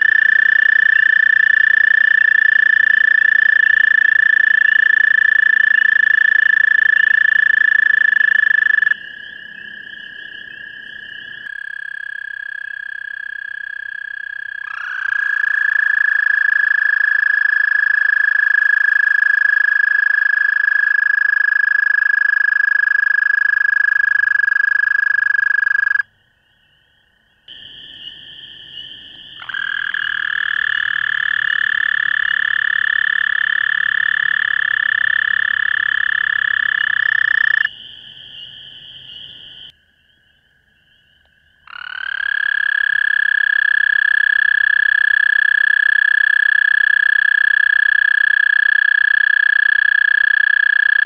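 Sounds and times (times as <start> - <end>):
toads trilling: 0.0 - 26.1, 26.7 - 51.0.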